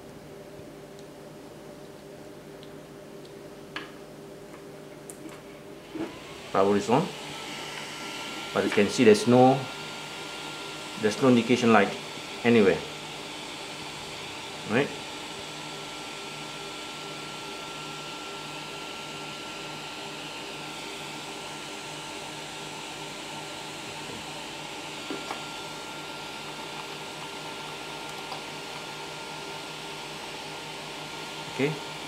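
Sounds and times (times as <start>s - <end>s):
background hum and hiss: 0.0s - 32.0s.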